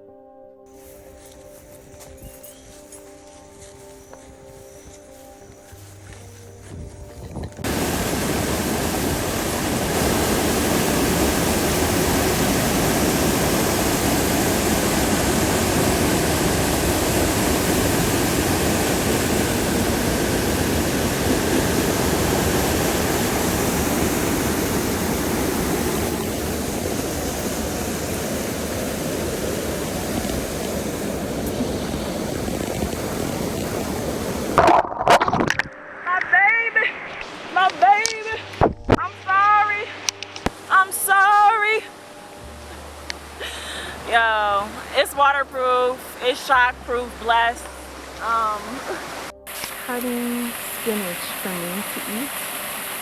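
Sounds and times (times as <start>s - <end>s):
flowing water rushing: 7.6s - 53.0s.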